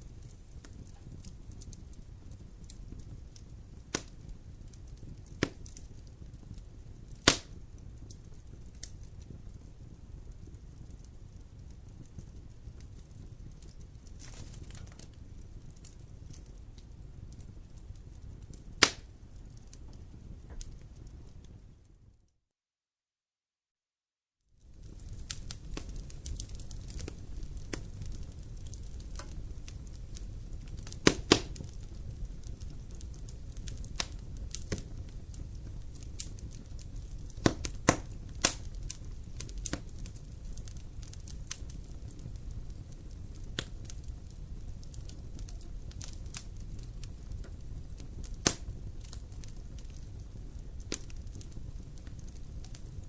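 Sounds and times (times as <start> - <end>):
wood fire crackling and popping: 0.0 - 22.2, 24.5 - 53.0.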